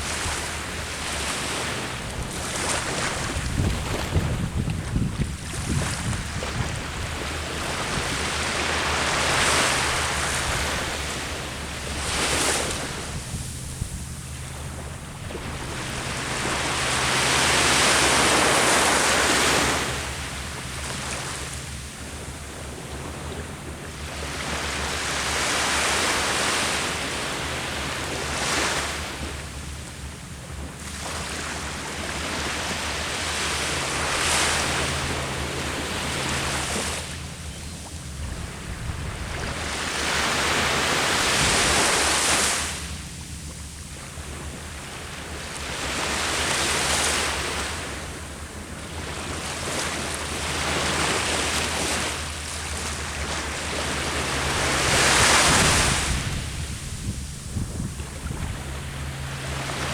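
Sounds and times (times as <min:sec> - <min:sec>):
sea waves washing onto shore: 0:00.0 - 0:59.9
steady low hum: 0:00.0 - 0:59.9.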